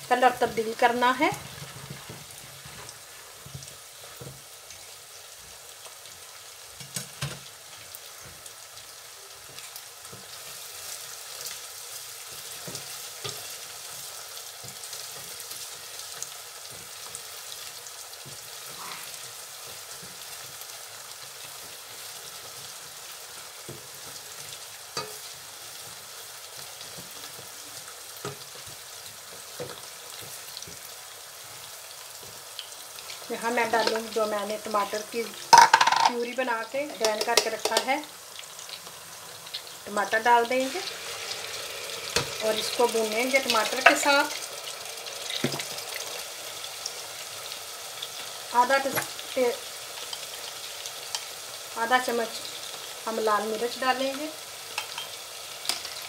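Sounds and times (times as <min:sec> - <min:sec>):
meatballs and onion frying in oil: 0:00.0 - 0:56.0.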